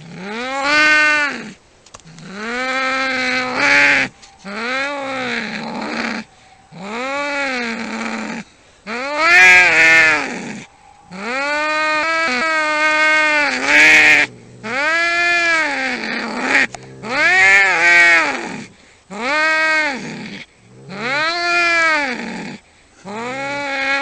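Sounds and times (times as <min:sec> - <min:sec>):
cats yowling: 0:02.2 - 0:20.2, 0:20.9 - 0:24.0.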